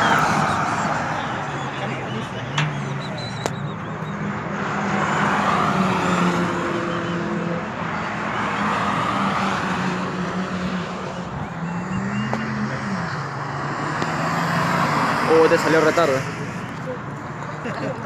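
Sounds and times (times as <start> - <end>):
racing car engine drone: 0.0 - 17.7.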